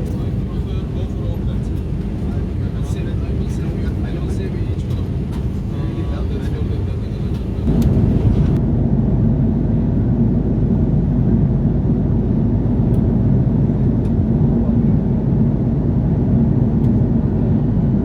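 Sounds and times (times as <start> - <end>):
jet engine rumble in cabin: 0.0 - 18.0.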